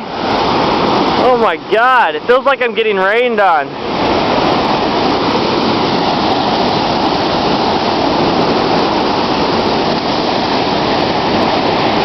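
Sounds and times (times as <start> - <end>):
rushing crashing water roar: 0.0 - 12.0.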